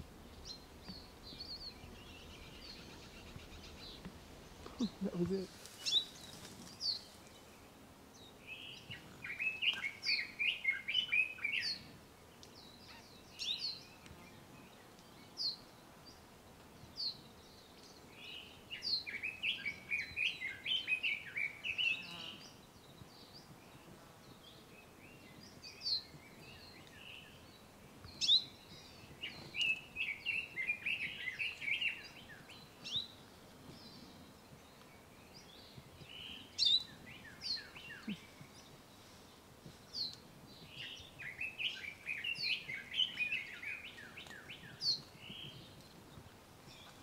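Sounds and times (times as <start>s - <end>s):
songbirds warbling trills: 0.0s - 16.2s, 16.9s - 47.0s.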